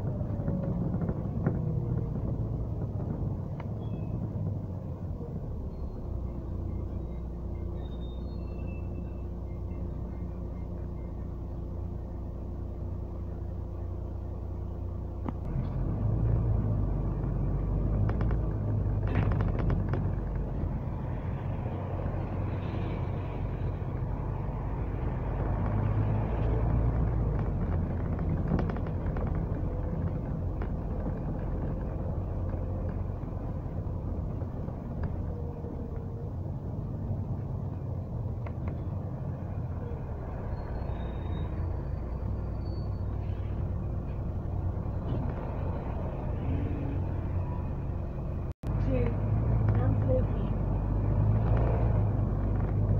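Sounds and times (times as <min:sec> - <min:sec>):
bus body rattling: 0:00.0 - 0:11.6, 0:15.2 - 0:22.6, 0:23.8 - 0:52.9
bus engine and road rumble: 0:00.0 - 0:52.9.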